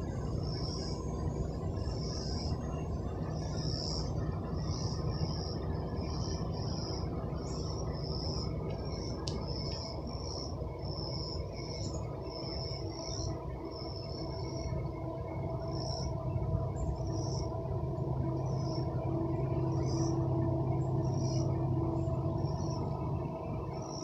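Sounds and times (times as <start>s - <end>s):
insects chirping: 0.0s - 24.0s
steady low rumble: 0.0s - 24.0s.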